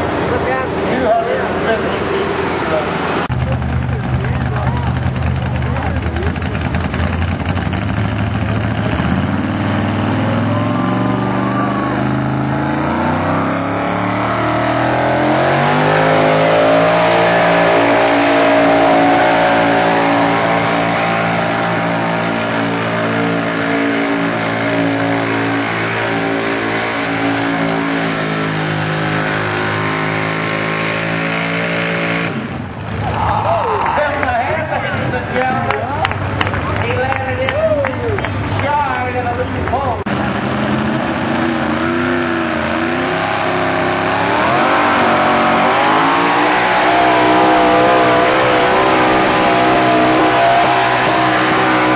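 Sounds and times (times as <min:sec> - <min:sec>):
tractor engine at full throttle: 0:00.0 - 0:51.9.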